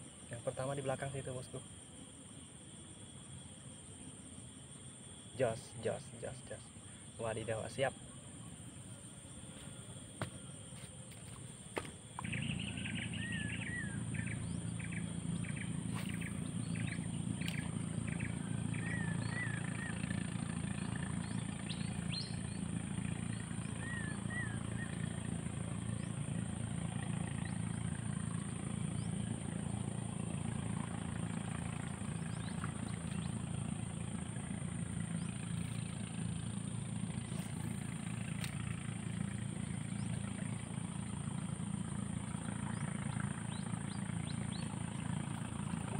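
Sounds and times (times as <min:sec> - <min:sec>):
low engine drone: 0:05.4 - 0:45.9
birds chirping: 0:06.8 - 0:45.9.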